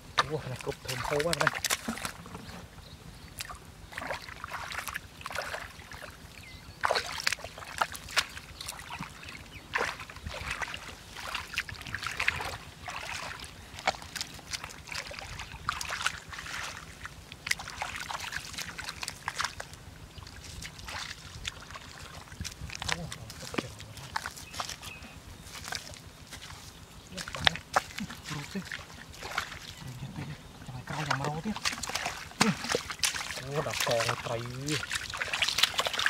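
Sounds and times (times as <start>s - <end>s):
bare feet wading through muddy water: 0.0s - 36.0s
water splashing and sloshing: 0.0s - 36.0s.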